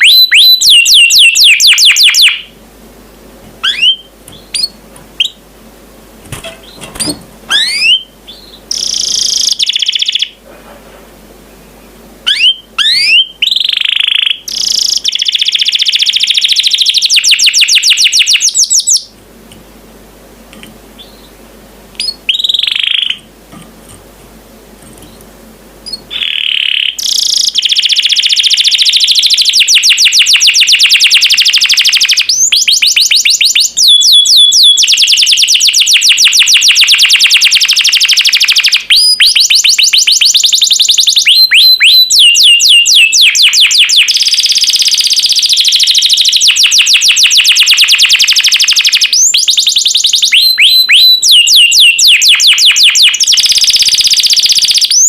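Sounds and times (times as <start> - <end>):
canary singing: 0.0 - 2.6, 3.6 - 5.4, 6.4 - 10.4, 11.5 - 19.2, 20.9 - 23.3, 25.0 - 55.0.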